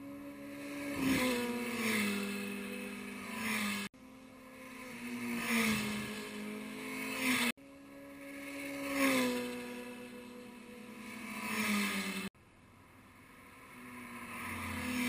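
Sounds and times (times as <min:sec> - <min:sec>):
motorcycle engines passing: 0:00.0 - 0:15.0.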